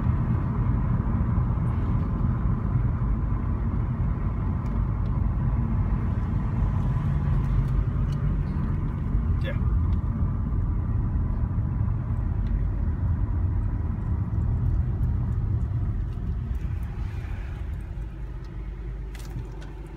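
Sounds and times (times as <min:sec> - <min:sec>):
car engine and road noise: 0:00.0 - 0:19.9.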